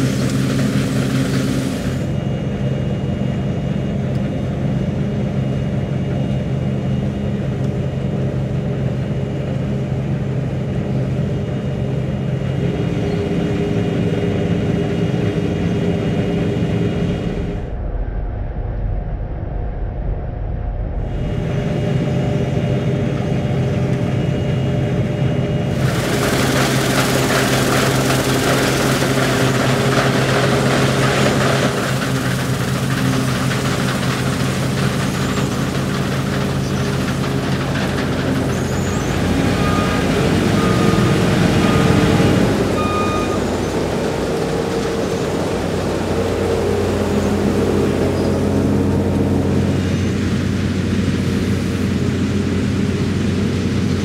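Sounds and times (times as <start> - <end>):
combine harvester running: 0.0 - 18.1, 20.9 - 54.0.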